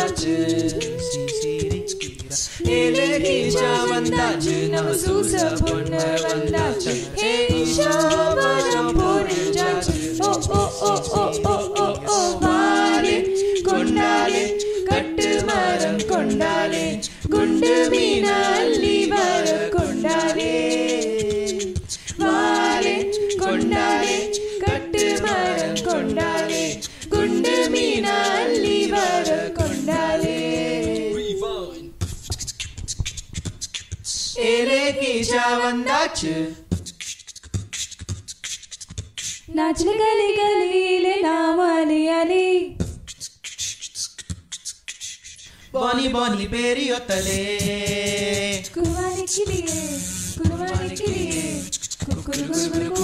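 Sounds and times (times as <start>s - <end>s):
vocal group singing harmony: 0.0s - 32.0s, 34.0s - 37.1s, 39.2s - 43.0s, 45.7s - 53.0s
beatboxed percussion: 0.0s - 40.0s, 42.7s - 53.0s.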